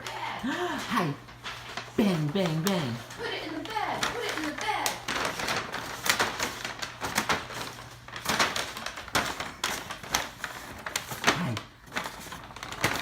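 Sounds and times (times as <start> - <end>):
paper bag crinkling: 0.0 - 13.0.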